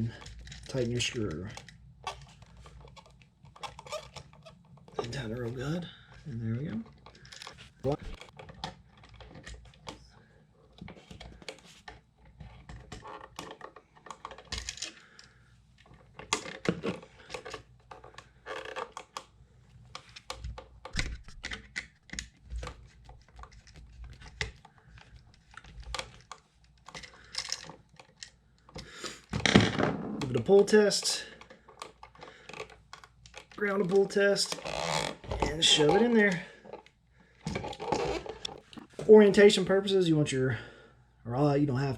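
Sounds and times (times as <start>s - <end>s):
hands and wires clicking and rustling: 0.0s - 39.8s.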